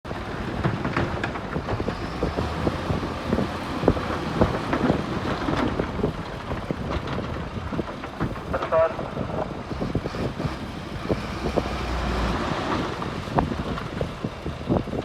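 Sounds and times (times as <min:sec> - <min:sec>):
bulldozer engine rumbling: 0:00.1 - 0:15.0
wind noise on microphone: 0:00.1 - 0:15.0.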